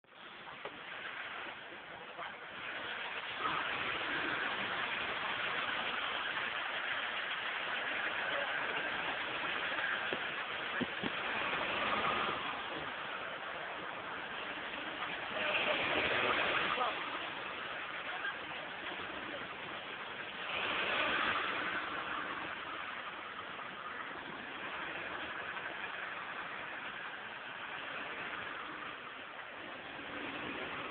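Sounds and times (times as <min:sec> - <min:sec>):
car engine running at low revs: 0:00.0 - 0:30.9
road and wind noise: 0:00.0 - 0:30.9.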